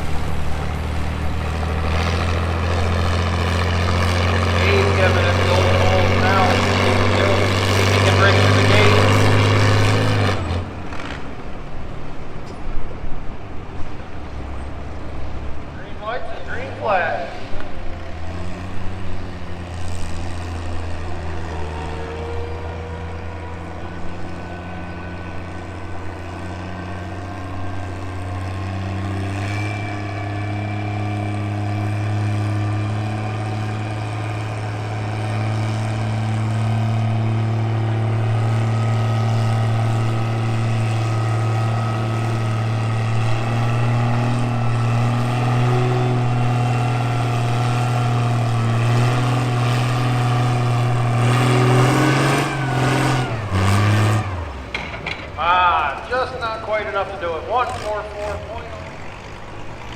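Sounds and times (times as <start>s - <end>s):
tractor engine under heavy load: 0.0s - 59.9s.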